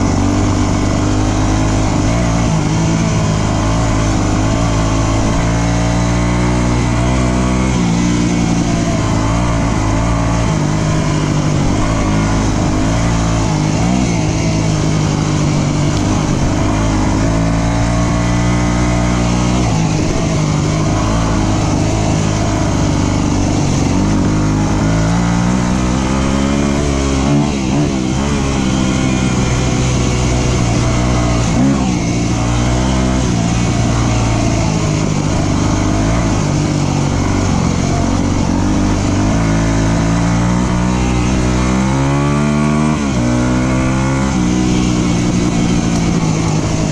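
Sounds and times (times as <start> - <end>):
dirt bike engine revving: 0.0 - 46.9
steady rush of noise: 0.0 - 46.9.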